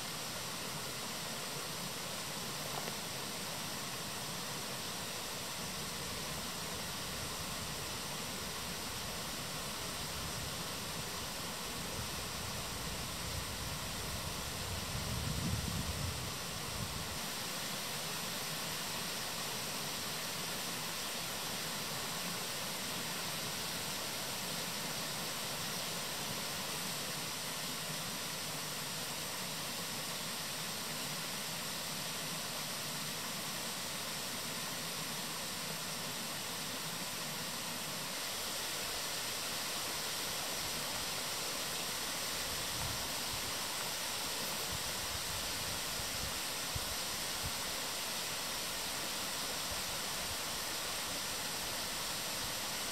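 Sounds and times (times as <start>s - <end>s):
stream flowing: 0.0s - 15.2s, 15.9s - 52.9s.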